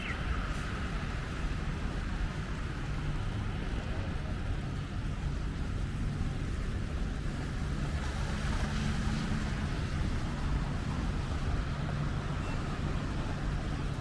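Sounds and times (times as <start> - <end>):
traffic rumble with tyre hiss: 0.0 - 14.0.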